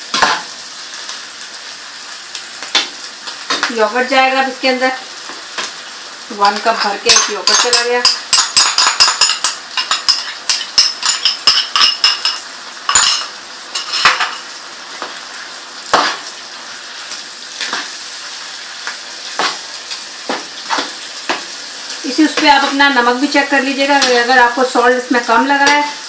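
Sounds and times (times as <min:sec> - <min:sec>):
food frying sizzle: 0:00.0 - 0:26.0.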